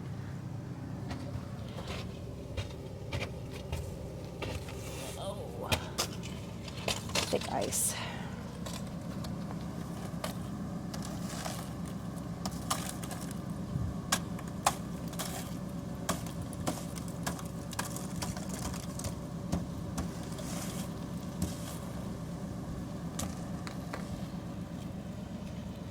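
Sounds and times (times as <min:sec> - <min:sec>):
truck engine idling: 0:00.0 - 0:25.9.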